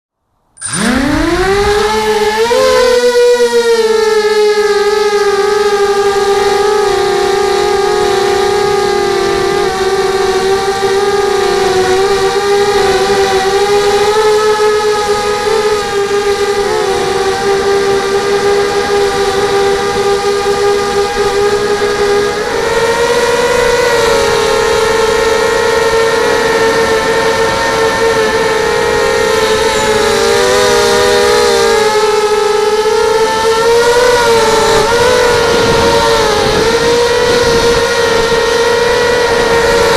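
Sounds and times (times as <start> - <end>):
quadcopter motors whining: 0.4 - 39.9.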